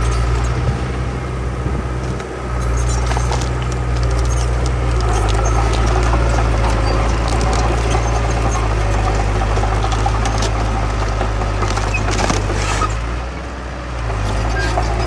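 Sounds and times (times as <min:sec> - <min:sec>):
heavy diesel engine rumbling: 0:00.0 - 0:15.0.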